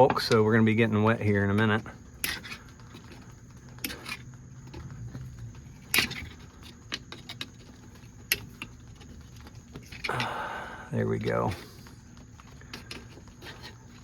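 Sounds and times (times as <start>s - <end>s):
hand tool clicking and scraping: 1.2s - 5.0s, 5.7s - 10.4s, 11.2s - 14.0s.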